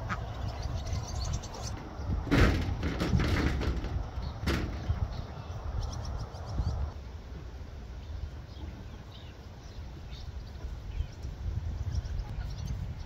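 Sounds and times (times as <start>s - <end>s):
wind on microphone: 0.0s - 7.0s, 8.1s - 13.0s.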